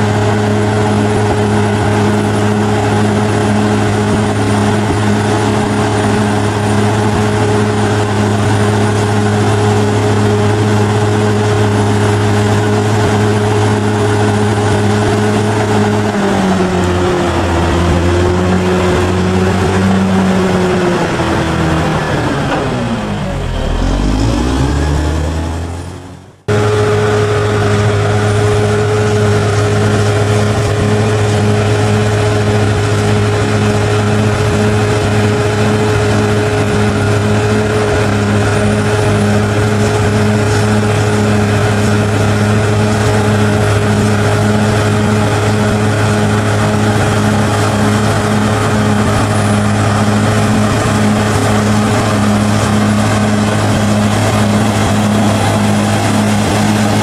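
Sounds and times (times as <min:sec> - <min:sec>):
bulldozer engine droning: 0:00.0 - 0:57.0
falling-pitch engine sound: 0:00.0 - 0:57.0.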